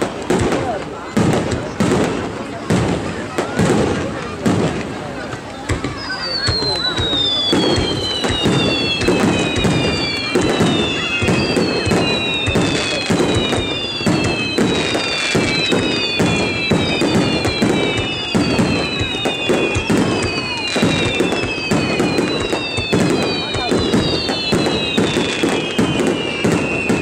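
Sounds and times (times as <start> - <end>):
falling firework whistles: 0.0 - 27.0
firework booms and crackling: 0.0 - 27.0.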